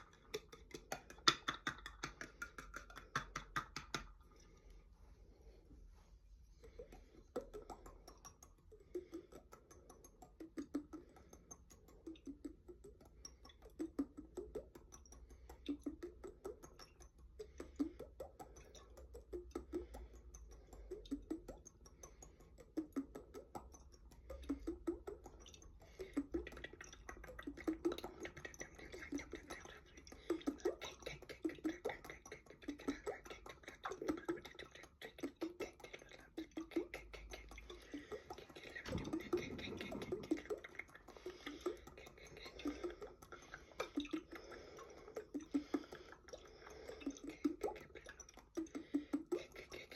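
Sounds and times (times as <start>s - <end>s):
low watery tones from jar: 0.0s - 49.9s.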